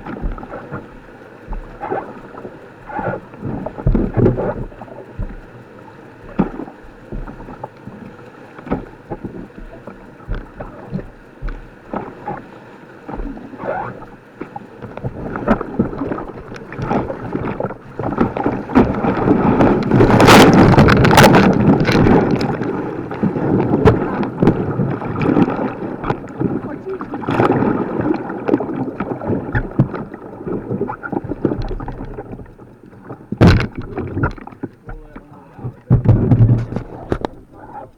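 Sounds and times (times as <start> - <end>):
rushing water: 0.0 - 37.9
water splashing: 0.0 - 37.9.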